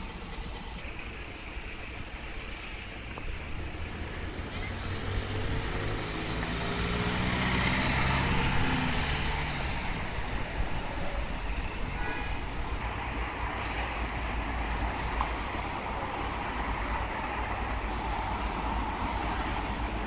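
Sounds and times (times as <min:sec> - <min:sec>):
road rumble: 0:00.0 - 0:20.0
vehicle engine passing: 0:03.2 - 0:20.0.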